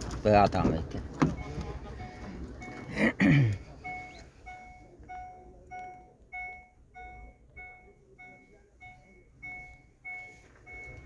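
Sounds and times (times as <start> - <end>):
dashboard warning chime: 1.3 - 11.0.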